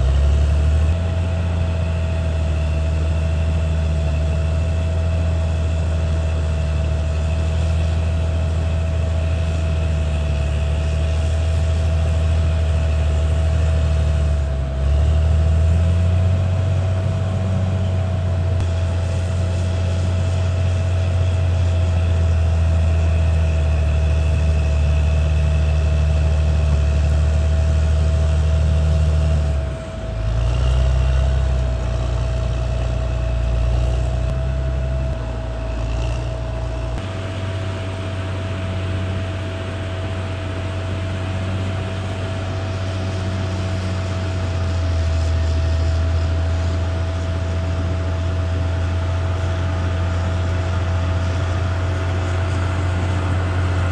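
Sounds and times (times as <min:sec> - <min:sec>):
bulldozer diesel engine running: 0:00.0 - 0:53.9
thin steady whine: 0:00.0 - 0:53.9.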